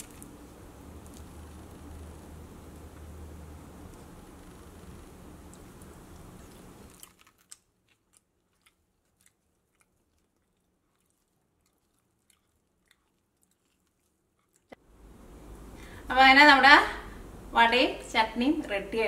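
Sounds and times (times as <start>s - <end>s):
faint room hiss: 0.0s - 19.0s.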